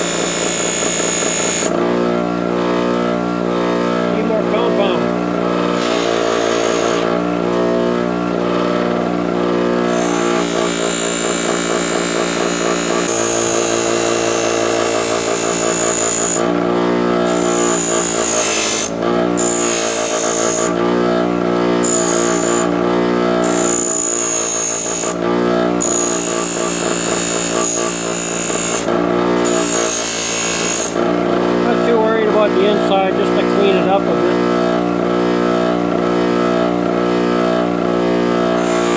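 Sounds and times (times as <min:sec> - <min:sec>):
power sander sanding metal: 0:00.0 - 0:38.9.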